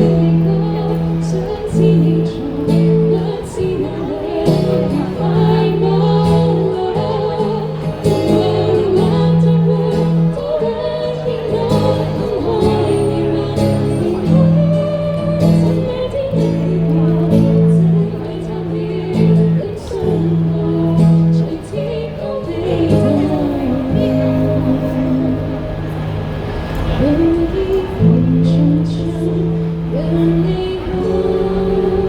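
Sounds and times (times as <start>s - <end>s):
lead singer singing: 0.0s - 26.1s, 26.8s - 32.0s.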